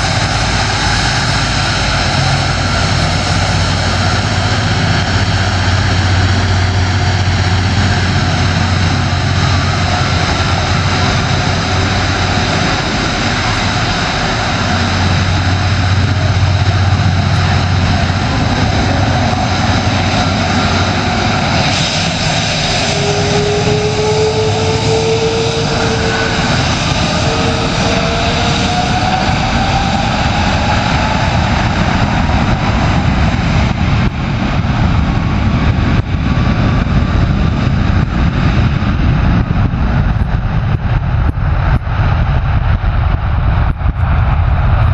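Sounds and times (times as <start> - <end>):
jet engine whine rising: 0.0 - 44.9
jet engines roaring: 0.0 - 44.9.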